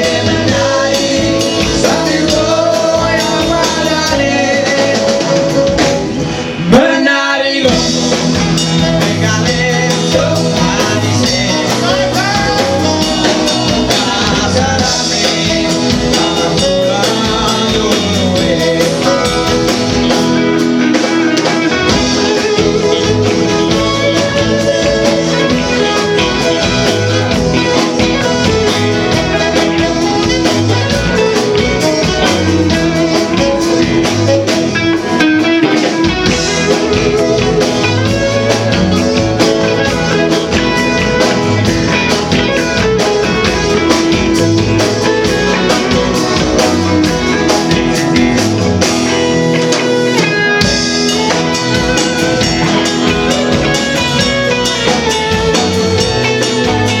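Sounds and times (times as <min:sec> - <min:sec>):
drum kit beat: 0:00.0 - 0:07.0, 0:07.6 - 0:57.0
guitar: 0:00.0 - 0:57.0.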